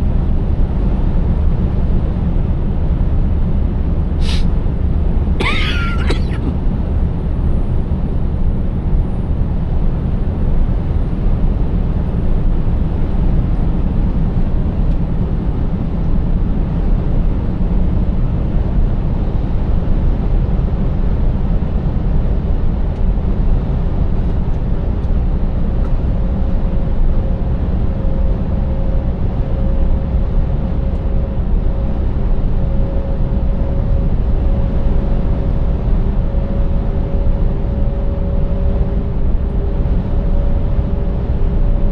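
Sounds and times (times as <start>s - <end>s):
truck engine and road rumble: 0.0s - 41.9s.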